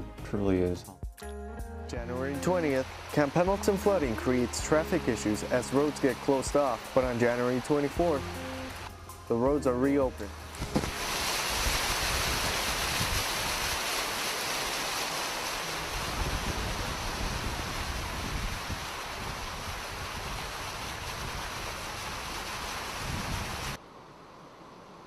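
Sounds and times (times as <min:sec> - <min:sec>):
rushing floodwater: 0:02.1 - 0:08.9, 0:10.3 - 0:23.8.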